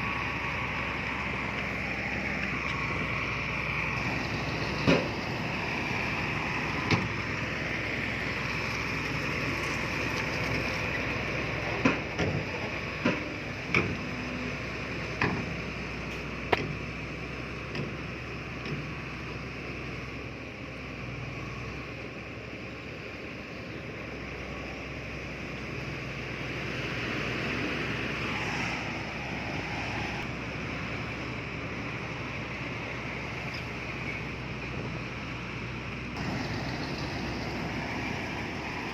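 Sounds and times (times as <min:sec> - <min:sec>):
construction machinery running: 0:00.0 - 0:38.9.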